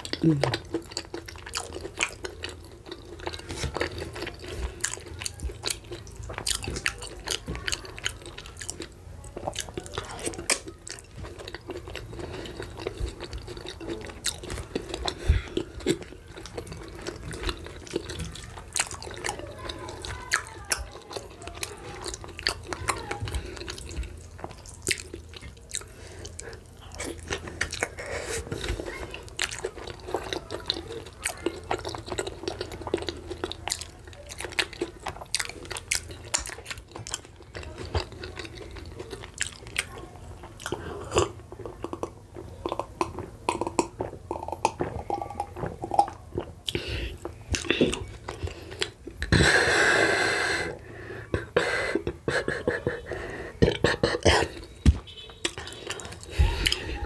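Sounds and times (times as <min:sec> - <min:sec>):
wet chewing mouth sounds: 0:00.0 - 0:57.0.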